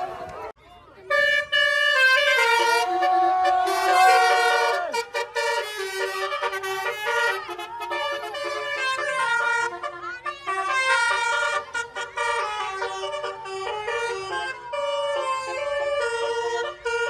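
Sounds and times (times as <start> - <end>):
musical horns playing a tune: 1.0 - 17.0.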